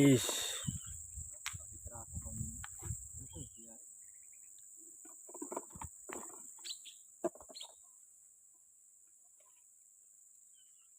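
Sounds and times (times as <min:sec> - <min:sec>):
high insect drone: 0:00.0 - 0:10.9.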